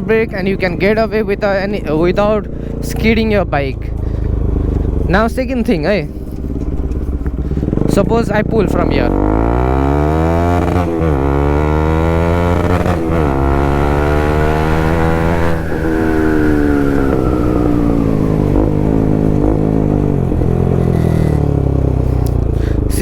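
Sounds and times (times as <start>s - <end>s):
motorcycle engine braking: 0.0s - 23.0s.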